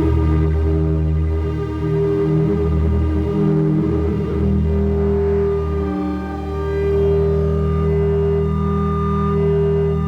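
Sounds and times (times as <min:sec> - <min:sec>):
synthesizer low drone: 0:00.0 - 0:10.0.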